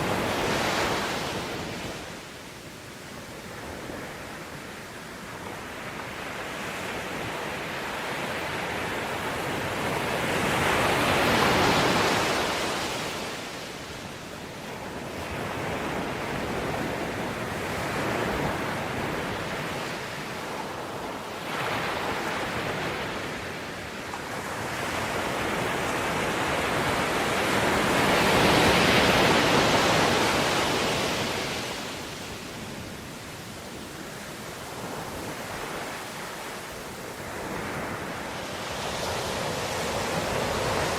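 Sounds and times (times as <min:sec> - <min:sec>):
ocean waves breaking: 0:05.6 - 0:40.9.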